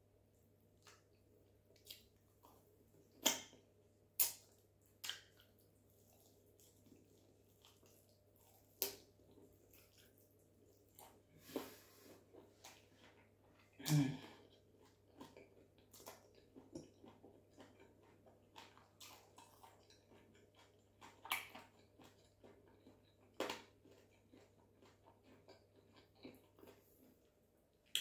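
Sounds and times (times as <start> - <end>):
person chewing food: 0.3 - 28.0.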